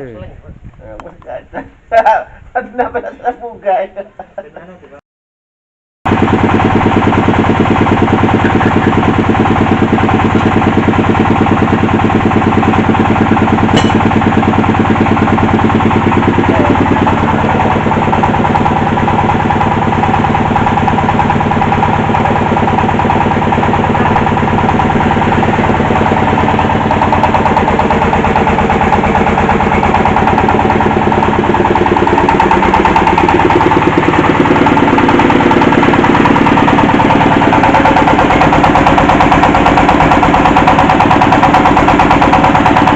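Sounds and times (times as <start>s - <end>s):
drilling rig engine running: 6.1s - 42.9s.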